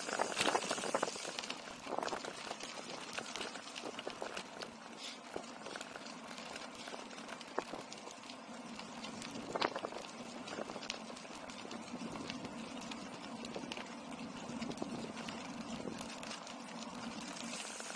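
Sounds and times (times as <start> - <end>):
bicycle tyres on tarmac: 0.0 - 17.9
bike rattling and clicking: 0.0 - 17.9.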